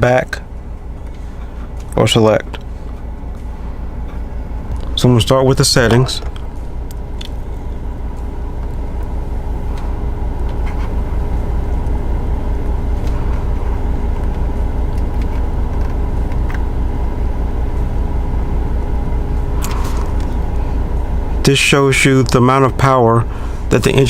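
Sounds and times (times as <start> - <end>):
car engine idling inside cabin: 0.0 - 24.0.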